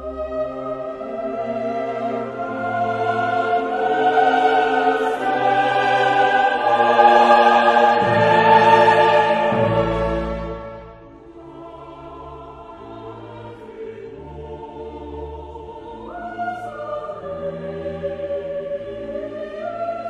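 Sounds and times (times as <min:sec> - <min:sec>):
slow classical choir and orchestra: 0:00.0 - 0:20.0.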